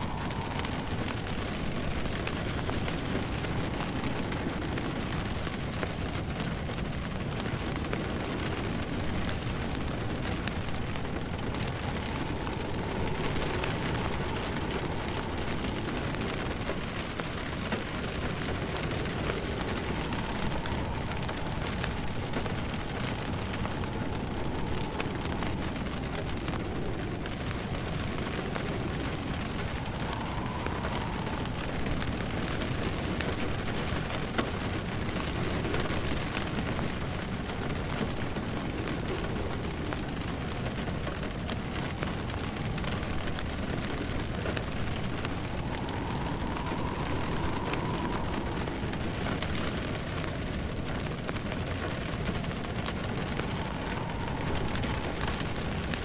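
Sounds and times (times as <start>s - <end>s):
heavy rain falling: 0.0s - 56.0s
wood fire crackling and popping: 0.0s - 56.0s.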